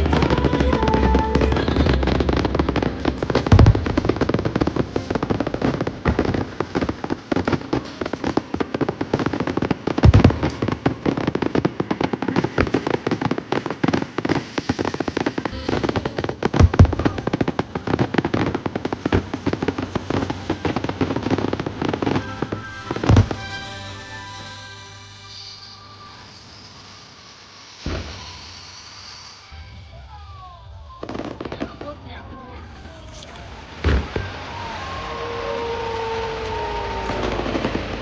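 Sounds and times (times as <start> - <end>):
heavy firework booms: 0.0 - 23.6, 29.6 - 38.0
fireworks crackling and popping: 0.0 - 38.0.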